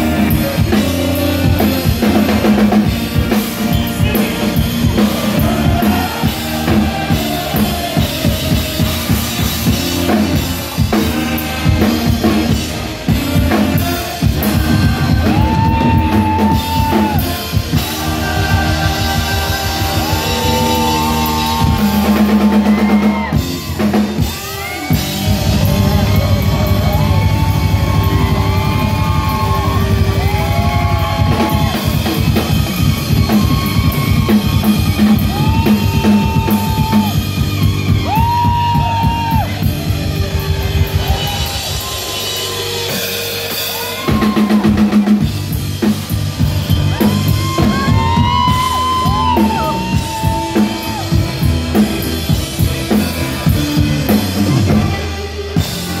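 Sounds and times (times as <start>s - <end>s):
drum fill: 0.0s - 56.0s
rock band playing live: 0.0s - 56.0s.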